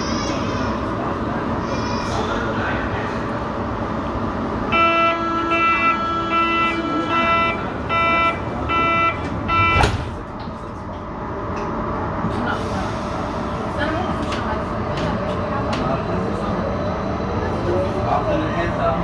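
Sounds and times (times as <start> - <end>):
train running through tunnel: 0.0 - 19.0.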